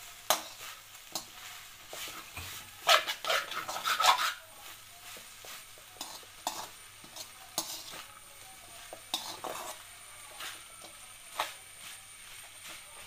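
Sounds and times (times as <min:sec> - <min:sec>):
frying sizzle: 0:00.0 - 0:13.0
spatula scraping a pan: 0:00.2 - 0:13.0.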